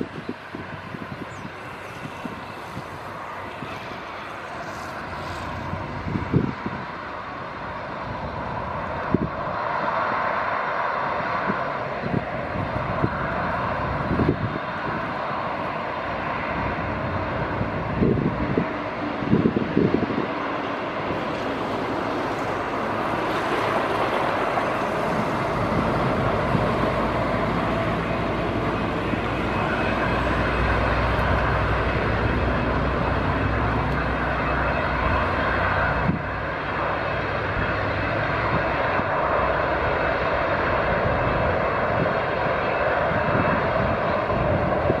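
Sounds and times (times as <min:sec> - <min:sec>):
jet engines rumbling and whining: 0:00.0 - 0:45.0.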